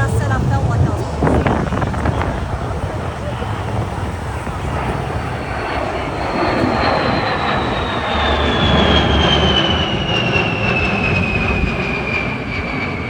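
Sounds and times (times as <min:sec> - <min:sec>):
jet aircraft flyby: 0:00.0 - 0:13.0.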